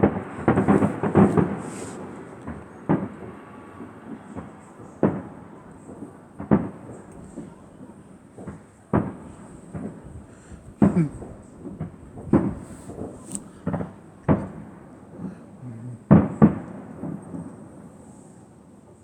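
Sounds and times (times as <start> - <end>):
fireworks bursting: 0.0 - 15.3.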